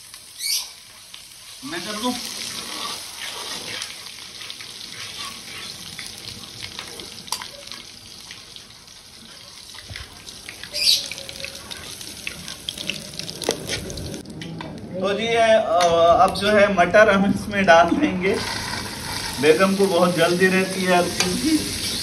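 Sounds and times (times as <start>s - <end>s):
paste sizzling in hot oil: 0.0s - 14.2s, 18.4s - 22.0s.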